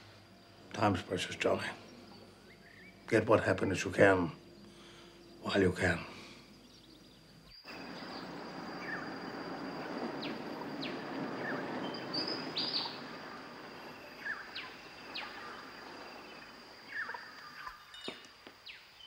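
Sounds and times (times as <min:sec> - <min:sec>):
birds chirping: 0:00.0 - 0:19.0
steady background hiss: 0:00.0 - 0:19.0.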